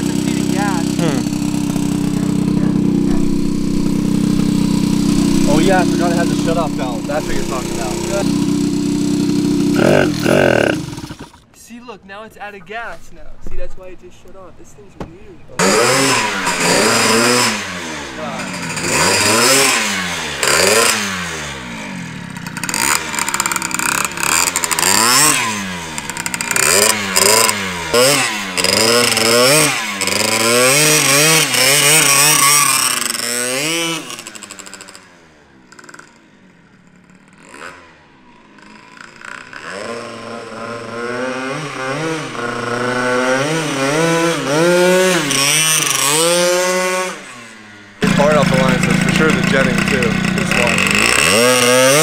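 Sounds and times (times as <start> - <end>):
scooter engine revving: 0.0 - 11.5, 15.5 - 52.0.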